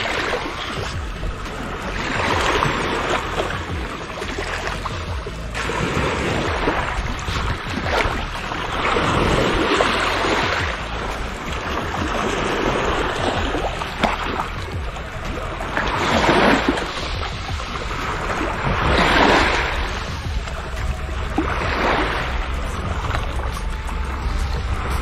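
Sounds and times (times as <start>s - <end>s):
small waves washing against rocks: 0.0s - 25.0s
wind buffeting microphone: 0.0s - 25.0s.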